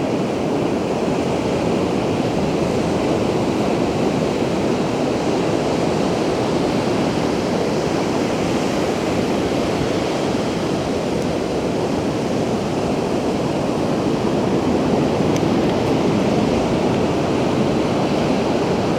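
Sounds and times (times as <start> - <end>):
ocean waves breaking: 0.5 - 18.9.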